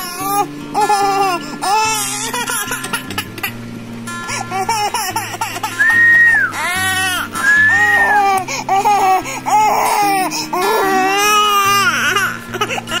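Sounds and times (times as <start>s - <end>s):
infant crying: 0.0s - 3.5s, 4.2s - 13.0s
background music with low held notes: 0.0s - 13.0s.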